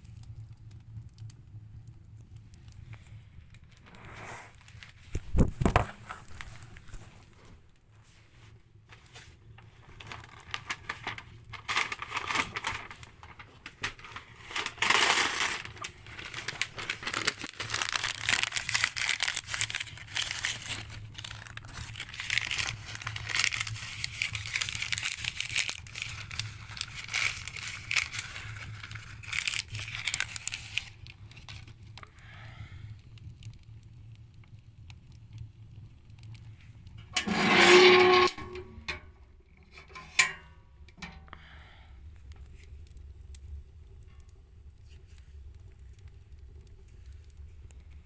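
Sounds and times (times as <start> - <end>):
logs crackling and popping in fire: 0.0 - 48.0.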